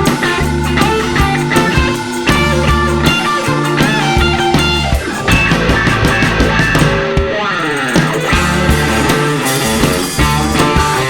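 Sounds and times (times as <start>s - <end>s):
electric guitar lead: 0.0s - 11.0s
rock band playing: 0.0s - 11.0s.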